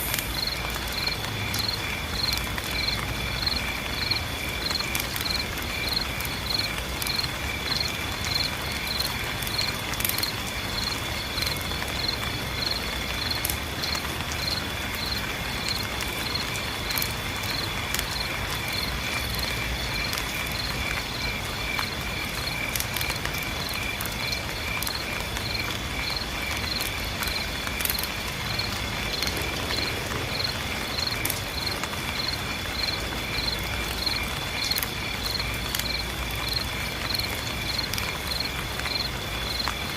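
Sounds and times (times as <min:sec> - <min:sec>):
insects chirping: 0:00.0 - 0:39.9
rain taps: 0:00.0 - 0:39.9.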